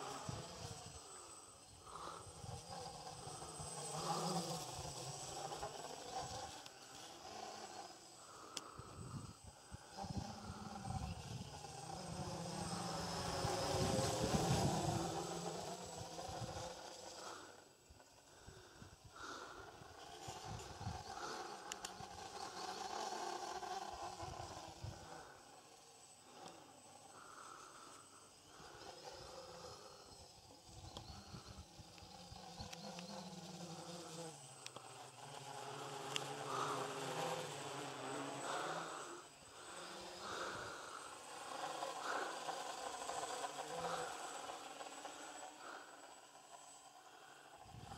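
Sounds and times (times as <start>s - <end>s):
quadcopter propellers buzzing: 0.0s - 47.9s.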